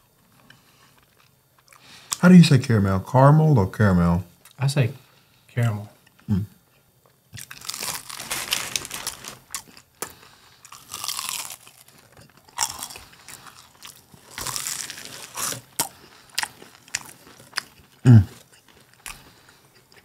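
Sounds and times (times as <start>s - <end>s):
crunching and chewing: 0.1s - 2.2s, 6.0s - 20.0s.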